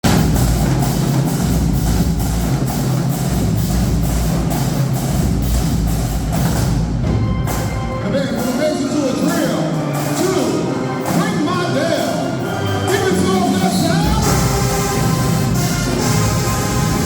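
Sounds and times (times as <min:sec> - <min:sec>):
marching band playing: 0:00.0 - 0:17.0
percussion steady beat: 0:00.0 - 0:17.0.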